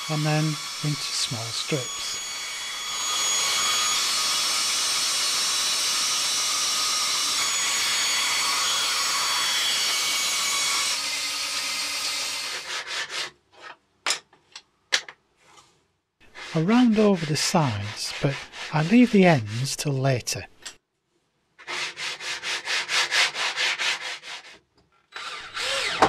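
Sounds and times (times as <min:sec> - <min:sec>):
bandsaw cutting plywood: 0:00.0 - 0:13.4, 0:16.2 - 0:20.2, 0:21.6 - 0:26.0.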